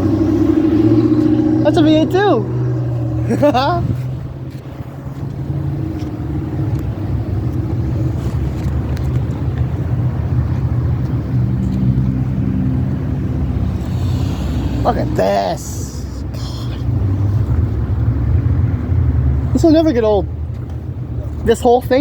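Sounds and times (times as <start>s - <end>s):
higher engine tone: 0.0s - 21.4s
car engine idling: 0.0s - 22.0s.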